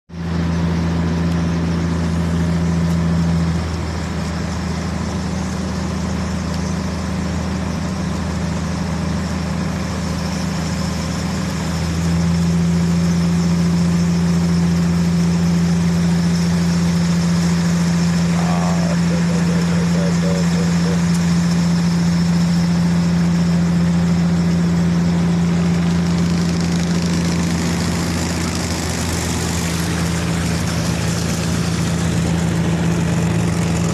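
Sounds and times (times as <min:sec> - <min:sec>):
vehicle engine humming: 0:00.1 - 0:33.9.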